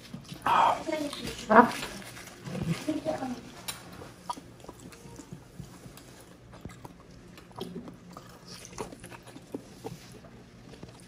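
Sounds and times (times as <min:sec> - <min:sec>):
chewing and lip-smacking: 0:00.0 - 0:02.9, 0:03.5 - 0:11.0.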